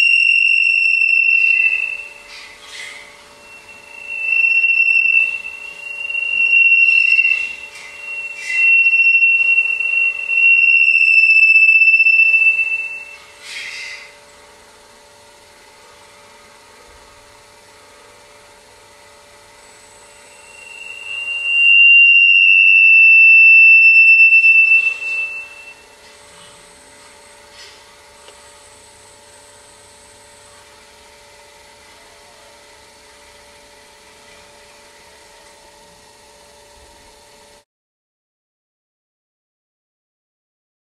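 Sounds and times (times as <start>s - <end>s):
faint steady hum: 0.0s - 37.6s
high feedback howl: 0.0s - 37.6s.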